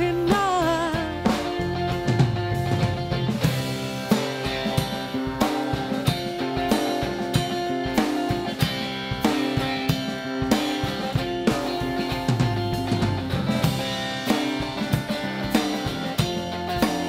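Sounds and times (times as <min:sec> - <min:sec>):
drum kit beat: 0:00.0 - 0:17.0
electric guitar: 0:00.0 - 0:17.0.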